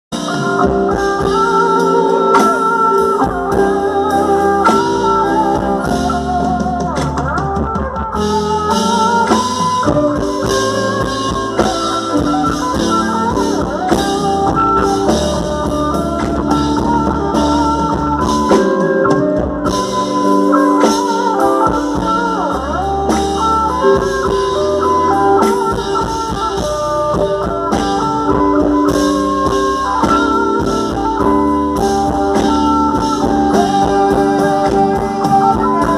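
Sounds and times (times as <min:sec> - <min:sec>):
bass line: 0:00.1 - 0:35.9
drum kit: 0:00.1 - 0:35.9
electric guitar: 0:00.1 - 0:35.9.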